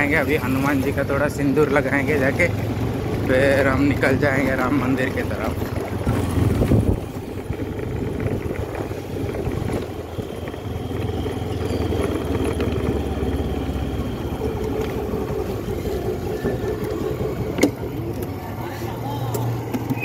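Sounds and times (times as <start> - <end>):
motorcycle engine and road noise: 0.0 - 20.0.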